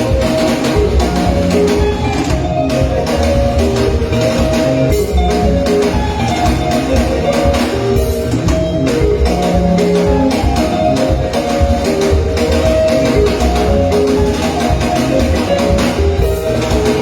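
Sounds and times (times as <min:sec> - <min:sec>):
electric guitar lines: 0:00.0 - 0:17.0
live band playing: 0:00.0 - 0:17.0.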